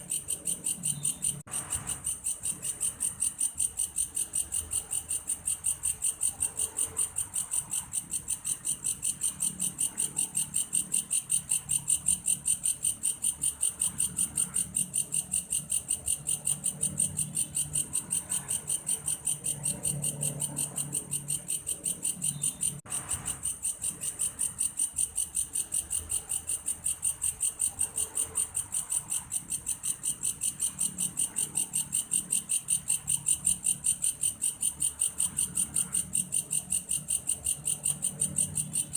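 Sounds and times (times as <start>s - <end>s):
grasshopper chirping: 0.0s - 38.9s.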